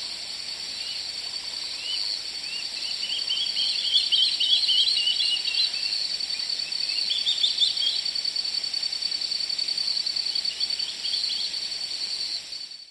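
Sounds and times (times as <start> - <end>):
high-pitched insect trill: 0.0 - 12.9.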